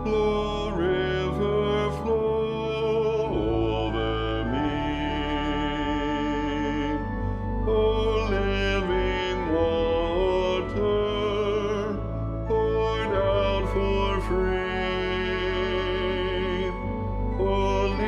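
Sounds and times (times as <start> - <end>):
slow choral music: 0.0 - 18.0.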